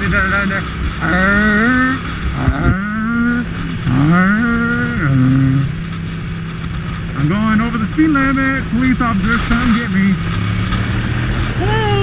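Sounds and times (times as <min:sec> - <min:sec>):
motorcycle engine accelerating hard: 0:00.0 - 0:12.0.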